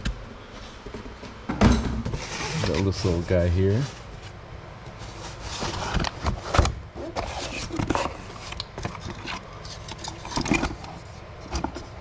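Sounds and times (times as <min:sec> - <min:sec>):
packaging rustling and scraping: 0:02.1 - 0:12.0.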